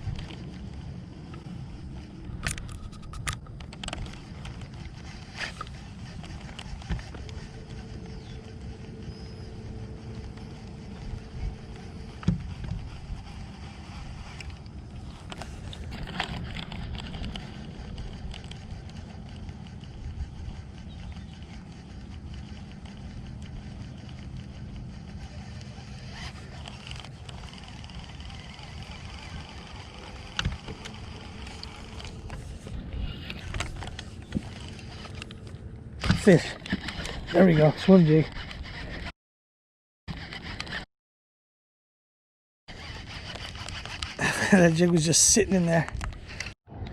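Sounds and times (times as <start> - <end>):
wind and water rumble: 0.0 - 39.1.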